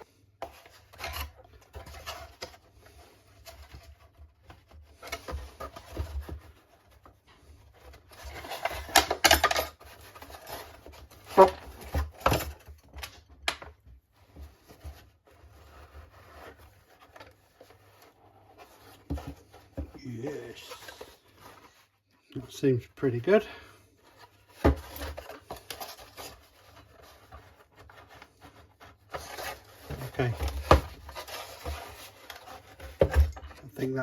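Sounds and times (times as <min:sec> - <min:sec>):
wooden parts rubbed and scraped: 0:00.4 - 0:13.3, 0:13.9 - 0:34.0.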